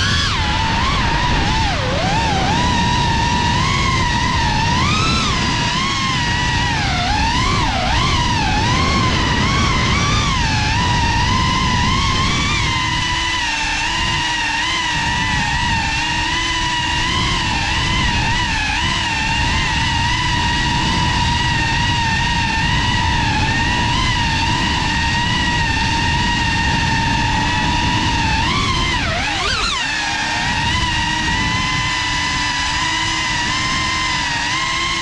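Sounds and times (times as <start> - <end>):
drone propellers whining: 0.0 - 35.0.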